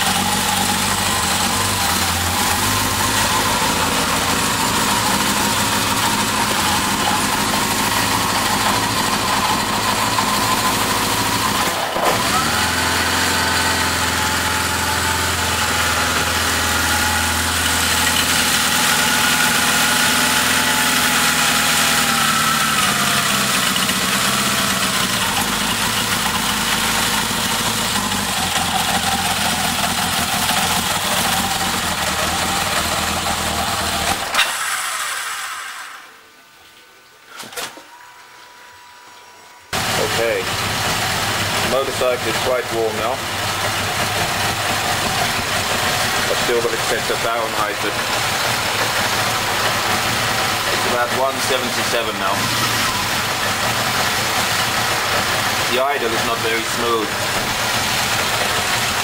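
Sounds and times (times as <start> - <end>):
motorcycle engine idling: 0.0 - 11.7, 13.0 - 34.2, 39.8 - 59.0.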